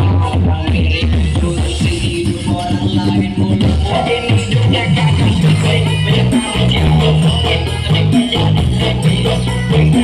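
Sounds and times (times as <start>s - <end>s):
remix music with heavy bass: 0.0s - 10.0s.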